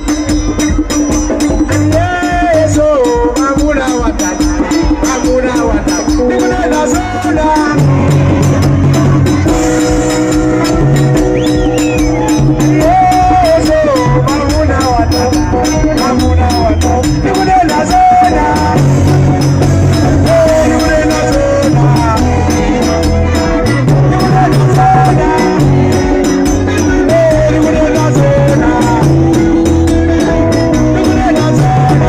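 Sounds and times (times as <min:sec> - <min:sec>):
live band music: 0:00.0 - 0:32.0.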